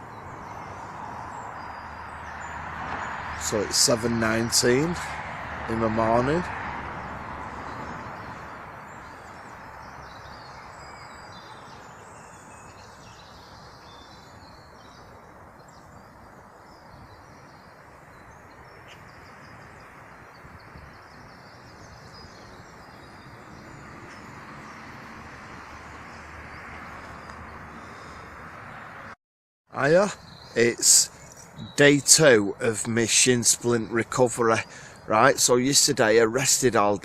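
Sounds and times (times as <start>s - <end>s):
small birds chirping: 0.0s - 6.4s, 7.0s - 29.2s, 29.8s - 37.0s
outdoor background hiss: 0.0s - 29.2s, 29.8s - 37.0s.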